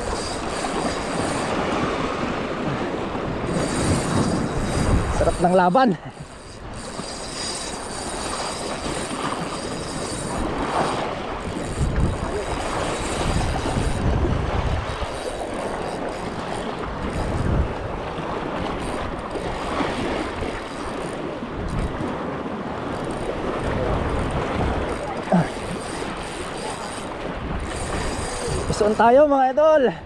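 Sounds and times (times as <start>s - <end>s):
wind buffeting microphone: 0.0s - 29.3s
sea waves against rocks: 0.0s - 30.0s.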